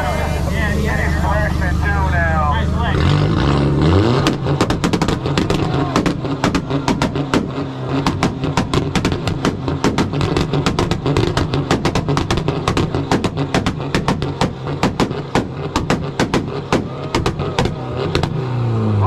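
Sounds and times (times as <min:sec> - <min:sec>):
exhaust popping and banging: 0:00.0 - 0:18.6
car engine on rev limiter: 0:00.0 - 0:19.0.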